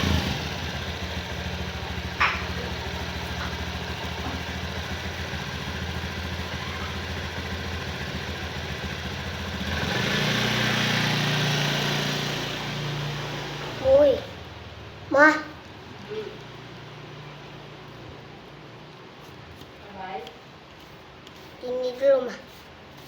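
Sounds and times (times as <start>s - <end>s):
small engine running: 0.0s - 19.3s.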